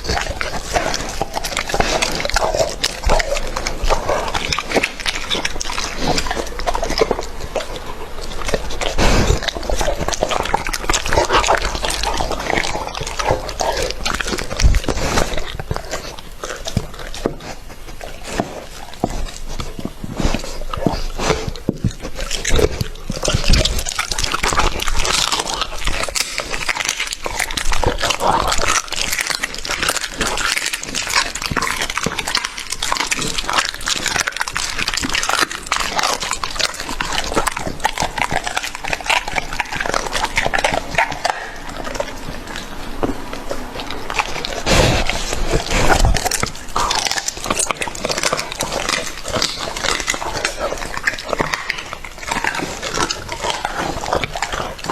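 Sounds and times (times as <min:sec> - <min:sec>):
dog chewing raw chicken: 0:00.0 - 0:54.9.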